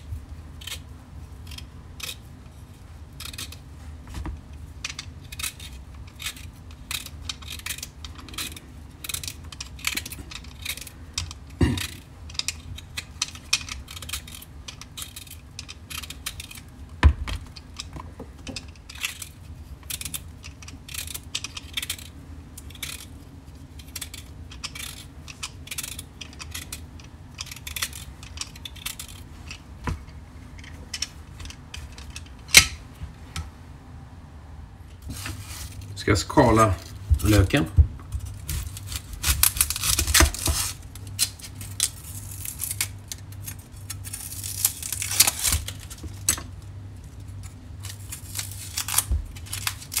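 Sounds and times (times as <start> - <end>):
vegetable peeler scraping beetroot: 0.0 - 2.3, 3.1 - 3.7, 4.9 - 17.9, 18.6 - 29.8, 35.0 - 46.2, 47.1 - 50.0.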